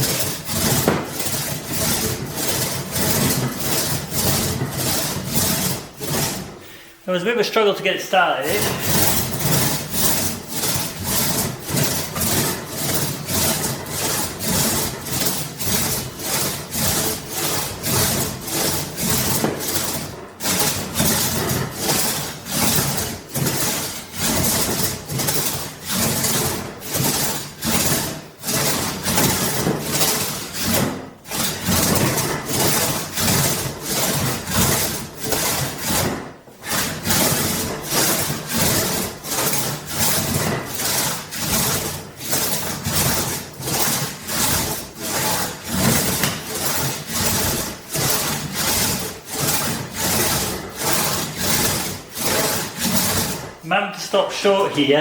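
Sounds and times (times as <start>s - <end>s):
crosscut saw rasping through wood: 0.0s - 7.7s, 8.4s - 55.0s.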